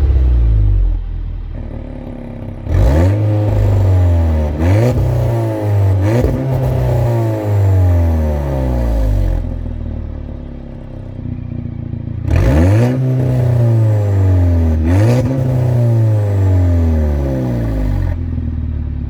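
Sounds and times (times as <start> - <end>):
car engine throttle blips: 0.0 - 18.8.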